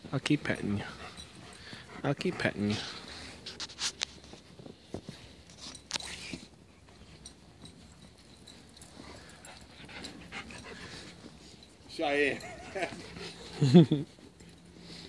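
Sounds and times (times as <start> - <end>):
dogs panting: 0.1 - 4.4, 6.2 - 15.0.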